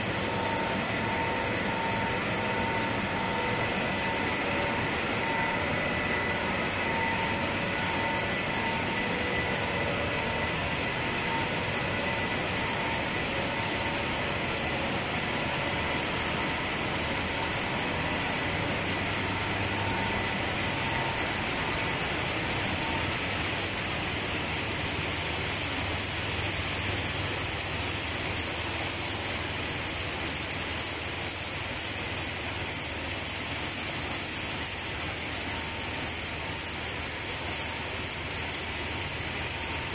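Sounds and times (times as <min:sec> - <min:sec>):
production line machinery: 0:00.0 - 0:39.9.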